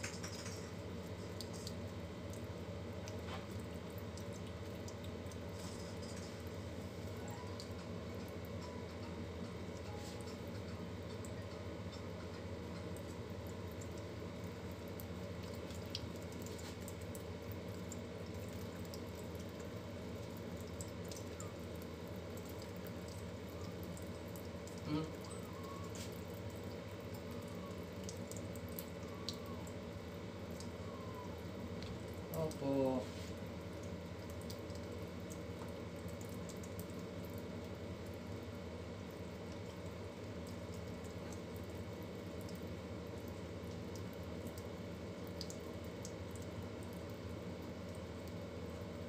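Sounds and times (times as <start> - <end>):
water drips: 0.0 - 49.0.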